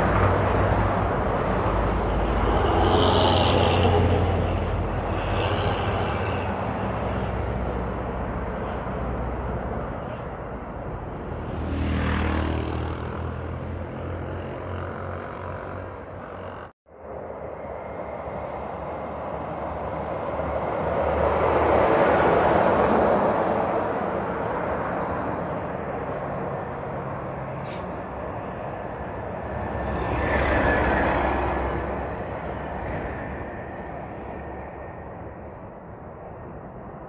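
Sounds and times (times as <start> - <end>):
heavy trucks passing: 0.0 - 37.0.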